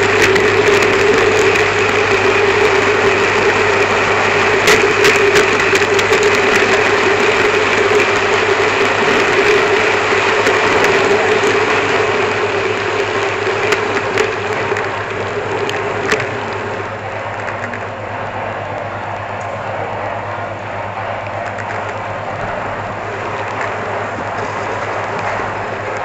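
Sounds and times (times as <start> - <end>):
sharp clicks of model train: 0.0 - 19.6, 21.1 - 26.0
model train mechanical whirr: 0.0 - 26.0.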